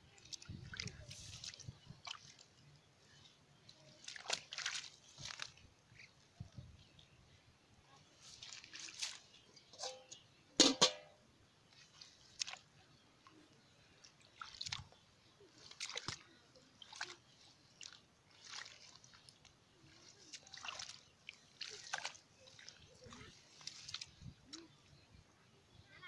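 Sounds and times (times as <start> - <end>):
hands squelching in mud and water: 0.0 - 7.1, 8.1 - 10.9, 11.6 - 25.0.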